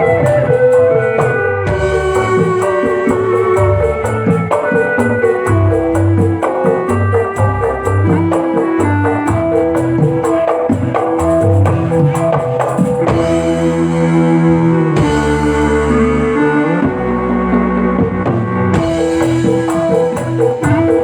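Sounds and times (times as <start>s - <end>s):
music with drum beat and bass: 0.0s - 21.0s.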